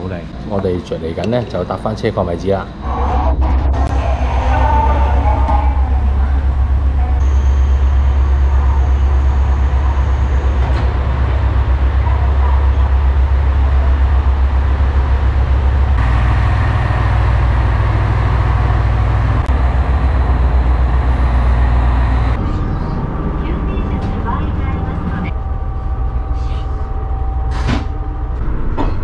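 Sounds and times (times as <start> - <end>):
diesel engine idling: 3.9 - 28.4.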